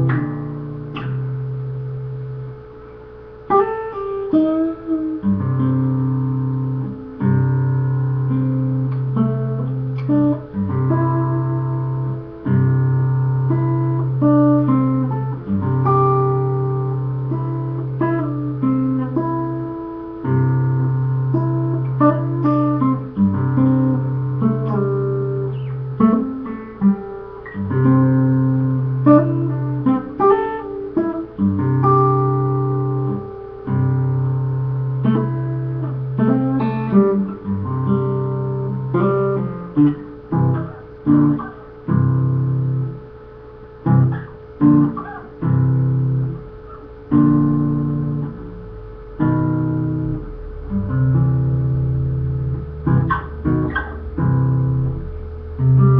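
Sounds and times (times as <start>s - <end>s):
solo guitar blues instrumental: 0.0s - 55.9s.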